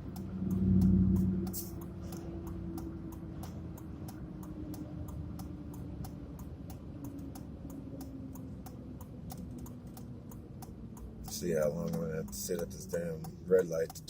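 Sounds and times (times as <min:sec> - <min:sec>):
engine idling hum: 0:00.0 - 0:14.0
turn signal ticking: 0:00.0 - 0:14.0.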